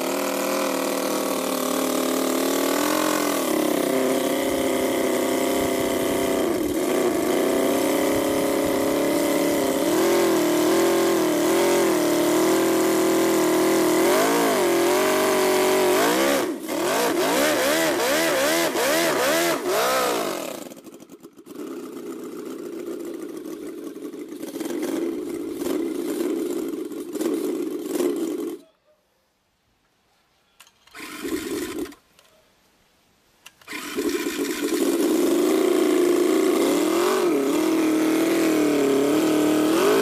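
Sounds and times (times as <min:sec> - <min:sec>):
model engine idling and revving: 0:00.0 - 0:28.6, 0:30.9 - 0:32.0, 0:33.6 - 0:40.0
rough steady running sound: 0:00.0 - 0:28.6, 0:33.7 - 0:40.0.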